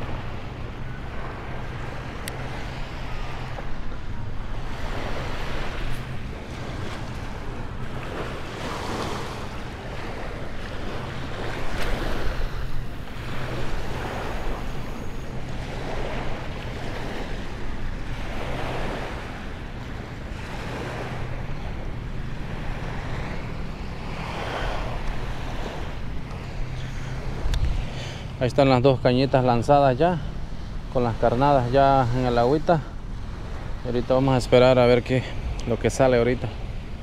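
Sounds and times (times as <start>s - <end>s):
waves lapping on a sandy shore: 0.0s - 37.0s
wind rumbling on the microphone: 0.0s - 37.0s.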